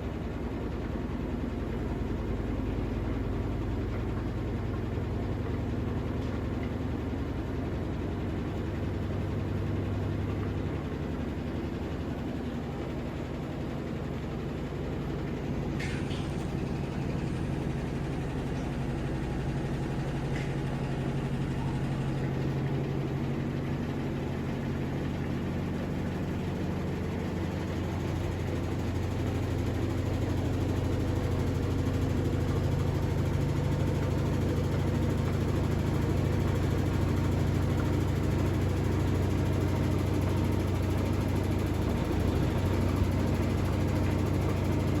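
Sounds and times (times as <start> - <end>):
washing machine motor hum: 0.0 - 45.0.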